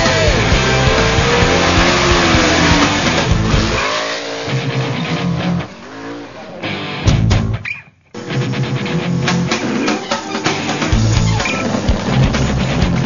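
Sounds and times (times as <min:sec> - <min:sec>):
racing car engine revving: 0:00.0 - 0:07.5, 0:08.2 - 0:13.0.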